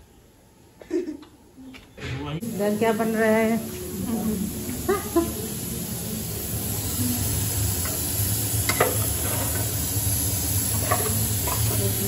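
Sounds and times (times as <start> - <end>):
gas stove hissing: 2.2 - 12.0.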